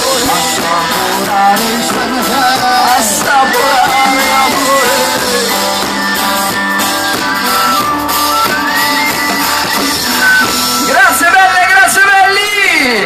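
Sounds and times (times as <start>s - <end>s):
live band with acoustic guitar: 0.0s - 13.0s.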